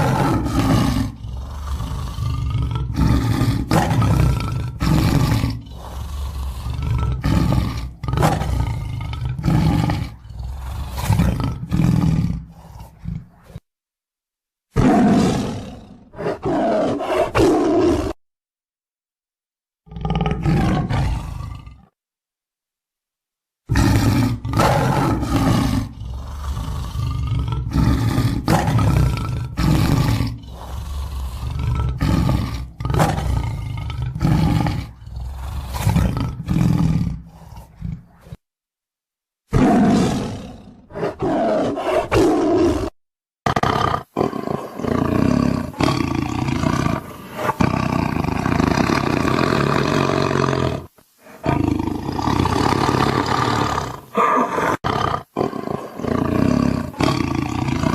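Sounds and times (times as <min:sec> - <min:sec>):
tiger growling and roaring: 0:00.0 - 0:13.6, 0:14.7 - 0:18.2, 0:19.8 - 0:22.0, 0:23.7 - 0:38.4, 0:39.5 - 0:57.9.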